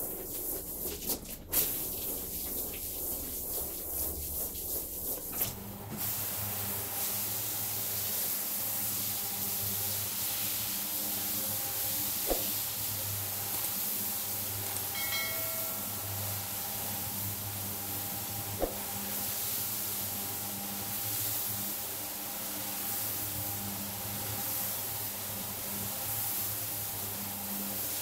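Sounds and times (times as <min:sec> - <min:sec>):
brush hissing on wet rug: 0:00.0 - 0:14.9, 0:16.8 - 0:28.0.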